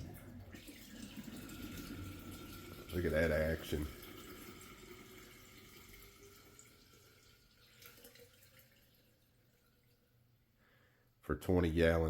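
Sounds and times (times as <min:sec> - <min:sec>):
water trickling down a drain: 0:00.0 - 0:10.4.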